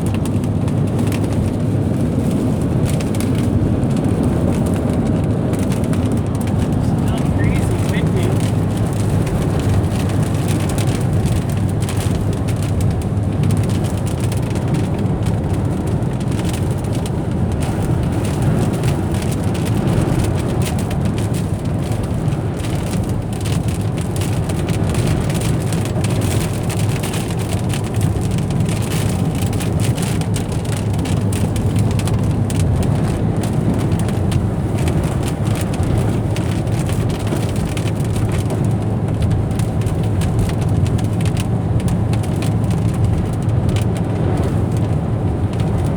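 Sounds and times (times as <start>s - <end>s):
car engine and tyre noise: 0.0s - 45.9s
rain hitting car: 0.0s - 45.9s.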